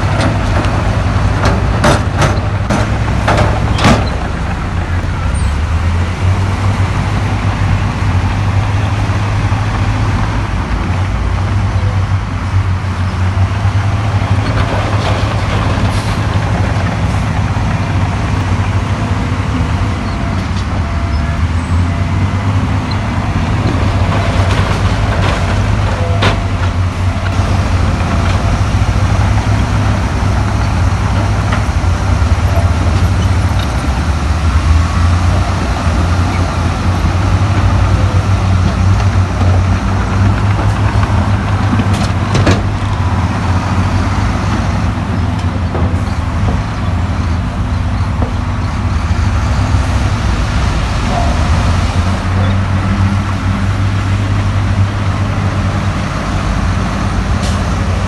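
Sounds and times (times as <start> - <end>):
diesel engine drone: 0.0 - 58.0.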